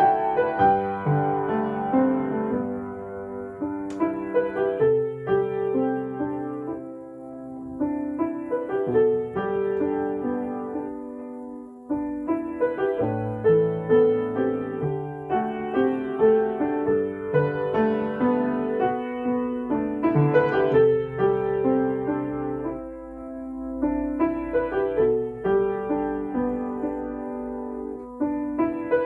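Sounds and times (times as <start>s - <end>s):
slow solo piano piece: 0.0s - 29.0s.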